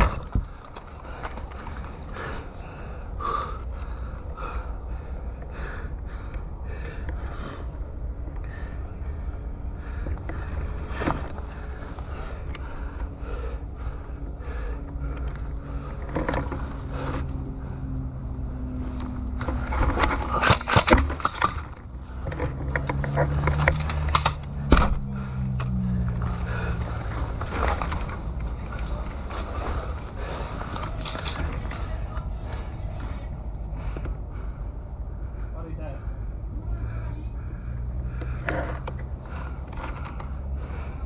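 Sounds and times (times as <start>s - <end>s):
steady low drone: 0.0s - 41.0s.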